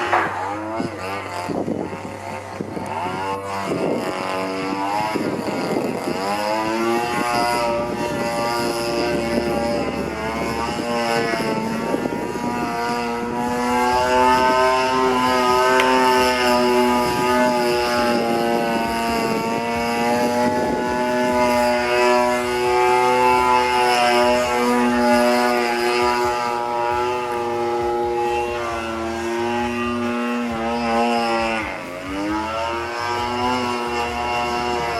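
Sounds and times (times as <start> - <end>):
model airplane engine buzzing: 0.0 - 34.9.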